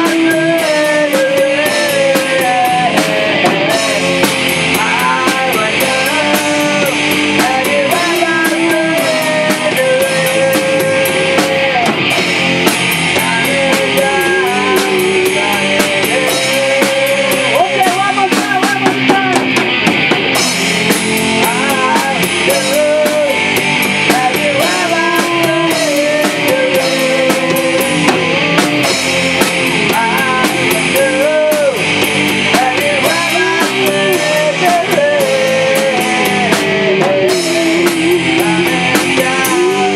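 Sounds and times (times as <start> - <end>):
electric guitar lines bending: 0.0 - 39.9
rock band playing live: 0.0 - 39.9.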